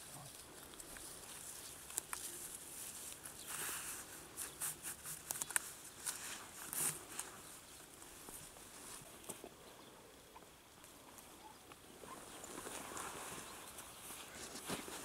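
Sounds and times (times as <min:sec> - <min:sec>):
rustling in dry grass and twigs: 0:00.0 - 0:15.0.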